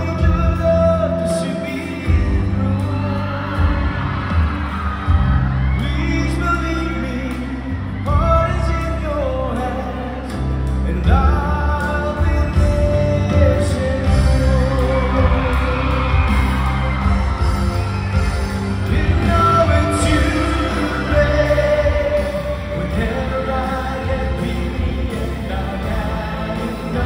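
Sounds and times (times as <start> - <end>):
man singing into microphone: 0.0 - 17.2, 18.1 - 27.0
amplified backing music: 0.0 - 27.0.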